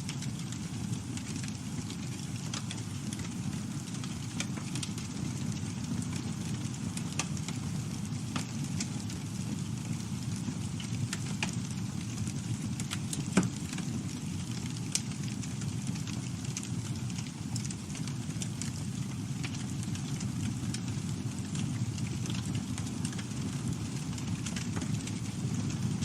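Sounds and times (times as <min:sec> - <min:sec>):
campfire flame rushing: 0:00.0 - 0:26.0
wood crackling and popping: 0:00.0 - 0:26.0.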